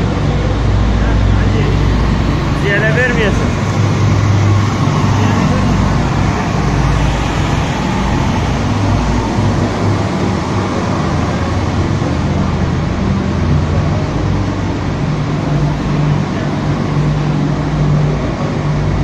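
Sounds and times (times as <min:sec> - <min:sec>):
machinery droning hum: 0:00.0 - 0:19.0.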